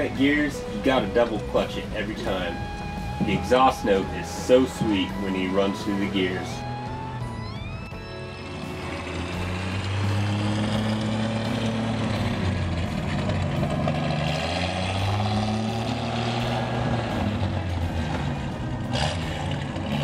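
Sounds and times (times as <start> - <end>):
pickup truck engine pulling away: 0.0 - 20.0.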